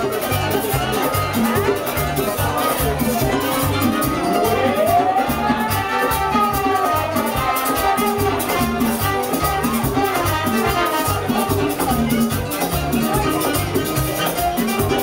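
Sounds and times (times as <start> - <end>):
live salsa band playing: 0.0 - 15.0.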